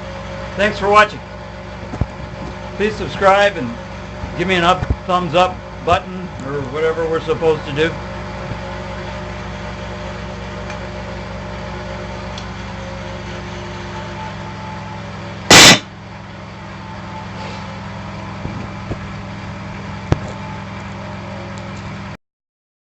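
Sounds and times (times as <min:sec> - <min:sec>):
low machine hum: 0:00.0 - 0:22.2.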